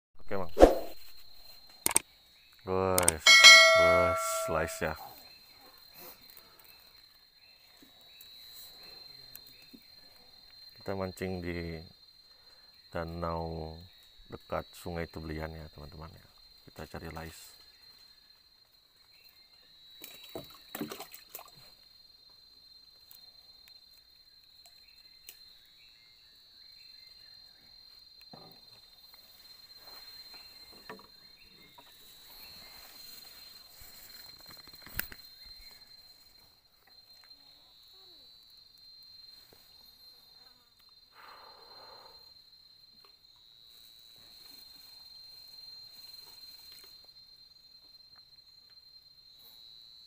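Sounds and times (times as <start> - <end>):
insects droning: 0.2 - 50.0.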